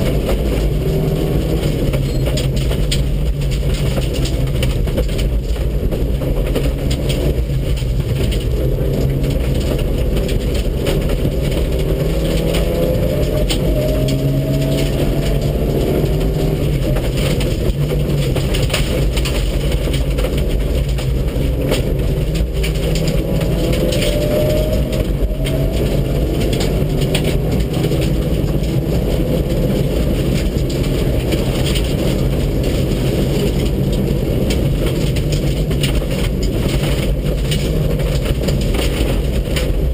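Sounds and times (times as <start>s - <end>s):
rally car engine revving: 0.0s - 39.9s
road noise: 0.0s - 39.9s
small clicks and knocks: 0.0s - 39.9s.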